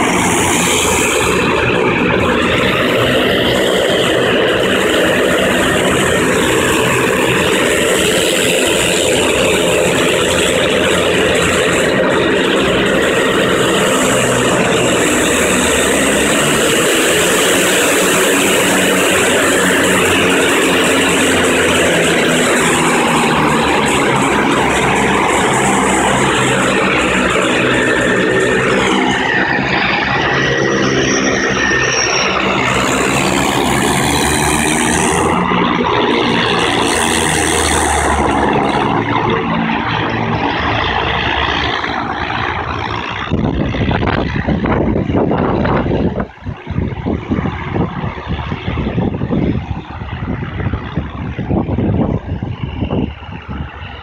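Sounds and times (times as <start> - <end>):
turboprop engines droning: 0.0 - 54.0.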